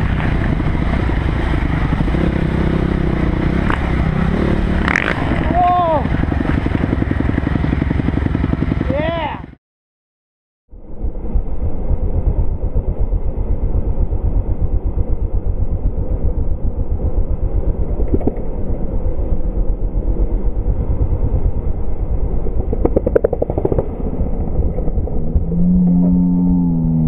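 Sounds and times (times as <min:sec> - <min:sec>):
dirt bike engine running: 0:00.0 - 0:09.6, 0:11.0 - 0:27.0.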